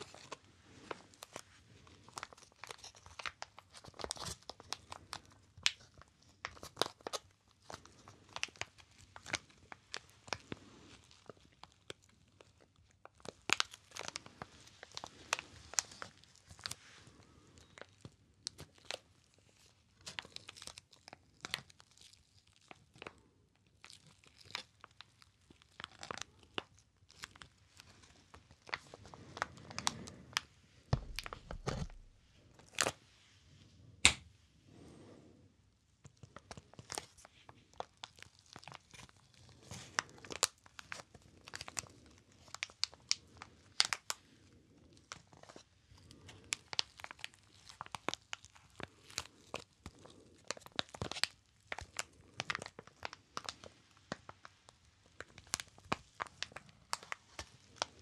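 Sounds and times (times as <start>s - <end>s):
plastic blister pack crinkling: 0.0s - 33.0s, 36.0s - 44.2s, 44.9s - 58.0s.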